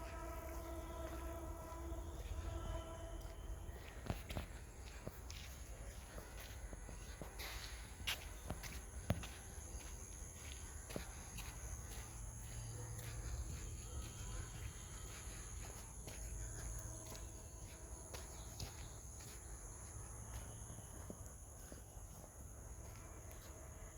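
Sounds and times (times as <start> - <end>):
footsteps: 0.0 - 23.8
high-pitched insect chorus: 0.0 - 23.9.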